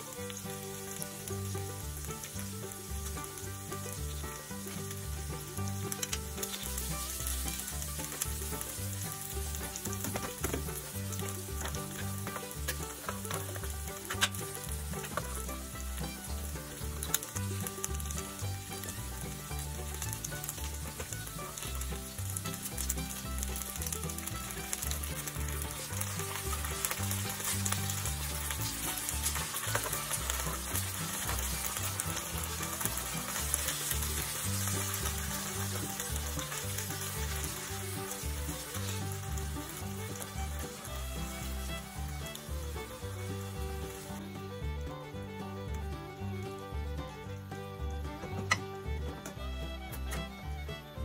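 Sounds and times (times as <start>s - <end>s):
food sizzling in a frying pan: 0.0s - 44.2s.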